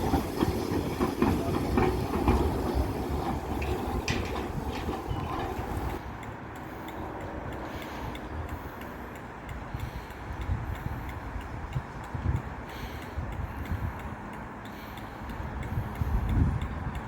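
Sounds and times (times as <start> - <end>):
train rumbling: 0.0 - 17.0
wheels clicking over rail joints: 0.0 - 17.0.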